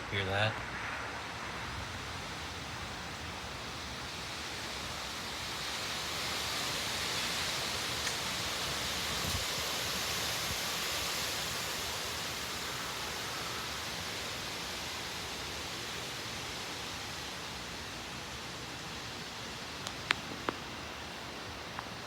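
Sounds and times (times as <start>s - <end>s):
thunderstorm wind and rain: 0.1s - 22.0s.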